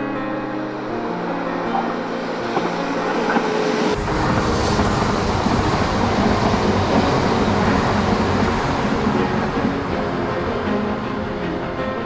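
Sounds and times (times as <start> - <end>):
train wheels rumbling on rail: 1.3 - 11.7.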